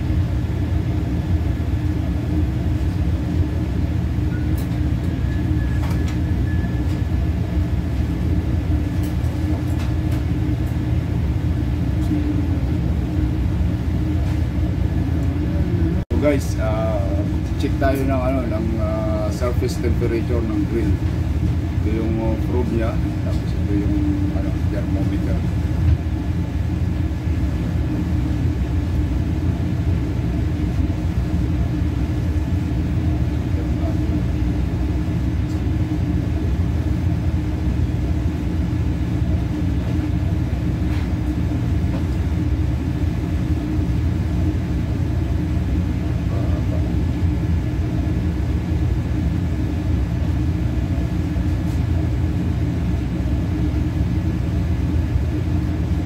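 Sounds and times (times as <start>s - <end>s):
machinery rumble and hum: 0.0s - 56.0s.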